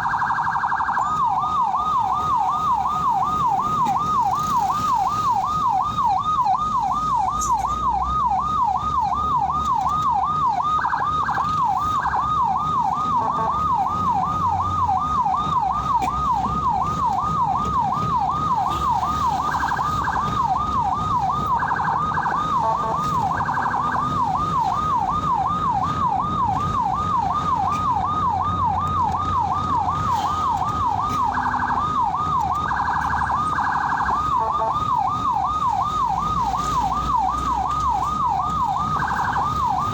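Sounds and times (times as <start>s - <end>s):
ambulance siren yelping: 0.0s - 39.9s.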